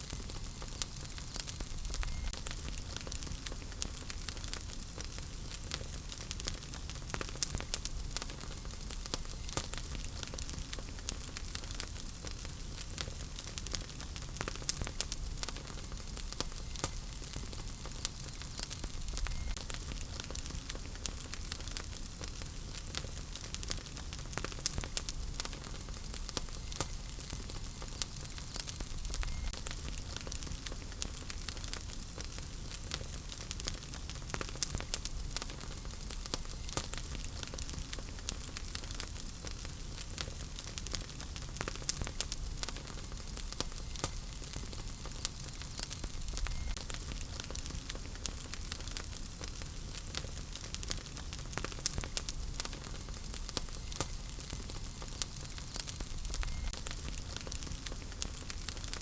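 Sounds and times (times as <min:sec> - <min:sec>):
low rumble and hiss: 0:00.0 - 0:59.0
wood fire crackling: 0:00.0 - 0:59.0.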